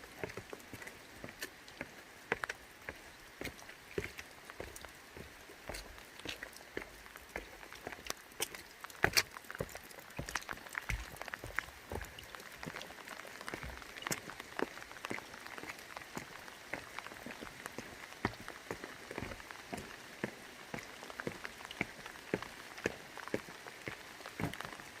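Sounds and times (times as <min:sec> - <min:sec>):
rain drops tapping: 0:00.0 - 0:25.0
steady rain hiss: 0:00.0 - 0:25.0.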